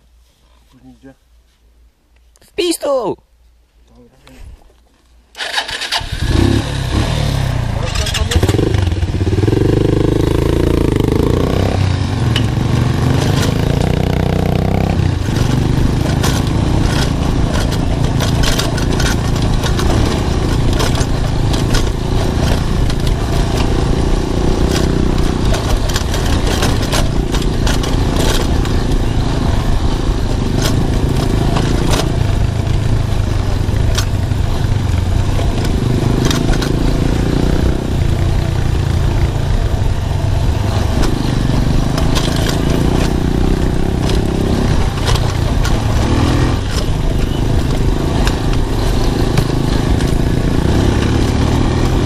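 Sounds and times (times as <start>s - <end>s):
knocks and rattles of bike: 4.8s - 52.0s
motorcycle engine revving: 5.4s - 52.0s.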